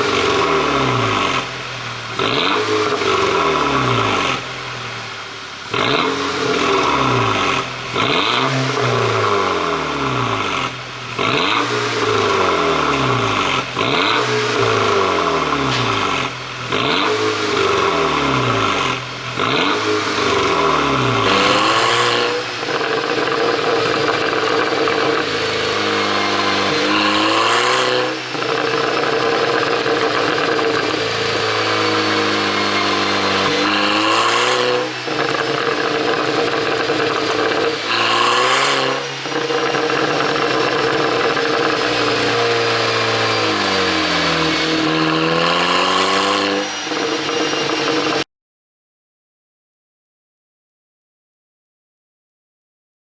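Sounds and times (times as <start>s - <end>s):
exhaust cracks: 0.0s - 48.2s
car engine revving: 0.0s - 48.3s.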